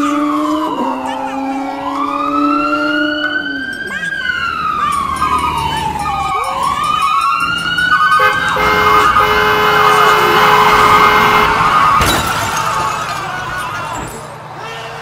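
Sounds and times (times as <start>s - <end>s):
ambulance siren wailing: 0.0s - 15.0s.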